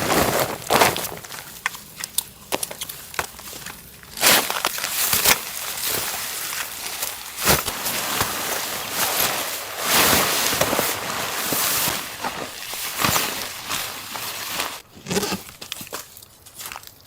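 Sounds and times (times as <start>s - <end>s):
crunching in snow: 0.0s - 17.0s.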